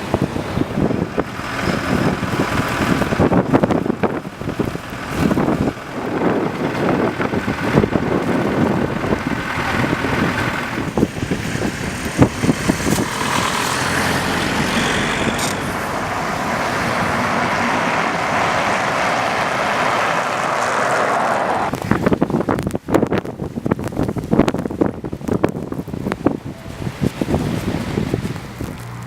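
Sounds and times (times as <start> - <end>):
steady vehicle noise: 0.0 - 29.0
street traffic: 0.0 - 29.0
wind buffeting microphone: 0.0 - 29.0.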